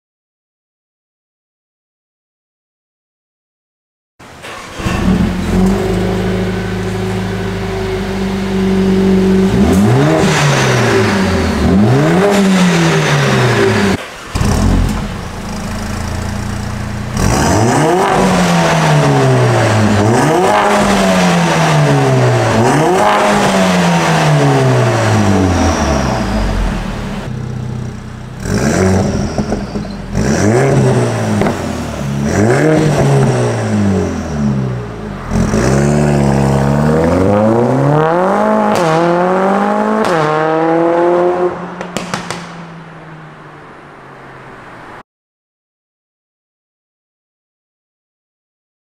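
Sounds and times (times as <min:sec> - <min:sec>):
car engine revving: 0:04.4 - 0:45.0.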